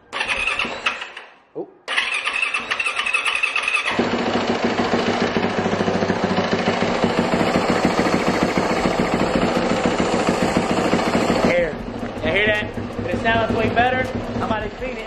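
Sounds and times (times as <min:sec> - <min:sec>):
dirt bike engine idling: 0:01.9 - 0:15.0.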